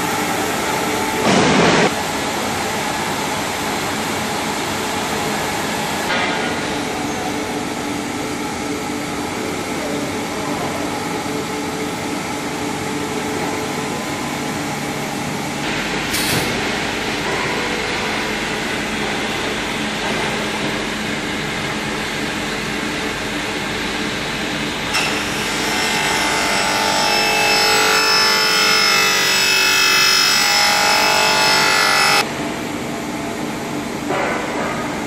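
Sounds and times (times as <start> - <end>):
extrusion machinery running: 0.0 - 34.2.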